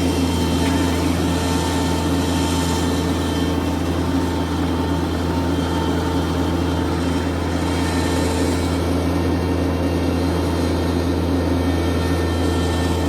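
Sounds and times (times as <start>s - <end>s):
skid steer engine droning: 0.0s - 13.0s.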